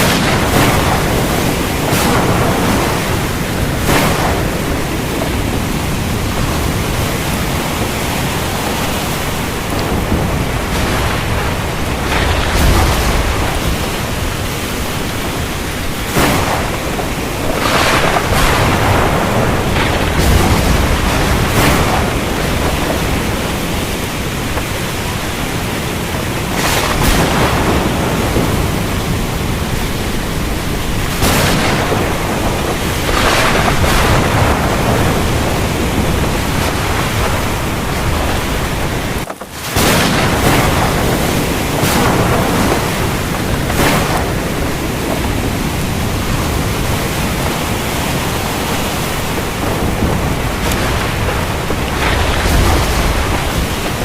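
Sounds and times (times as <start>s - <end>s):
heavy rain falling: 0.0s - 54.0s
thunder rumbling: 0.0s - 54.0s.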